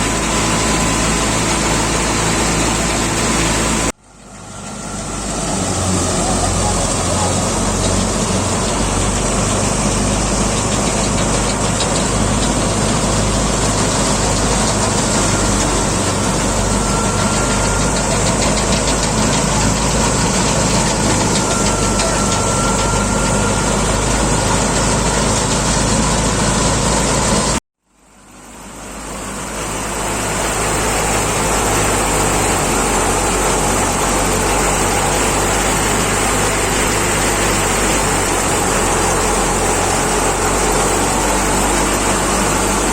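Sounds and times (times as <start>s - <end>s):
thresher machine noise: 0.0s - 27.6s, 28.4s - 42.9s
tractor engine under load: 0.0s - 42.9s.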